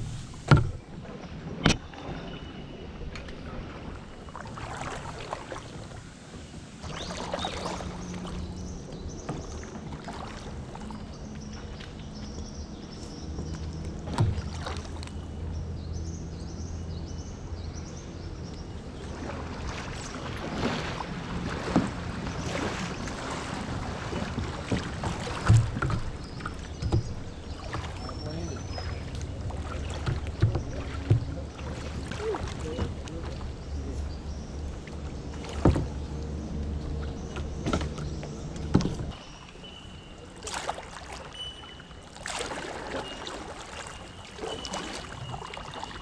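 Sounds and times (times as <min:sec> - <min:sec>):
paddle splashing in water: 0:00.0 - 0:15.4, 0:18.8 - 0:46.0.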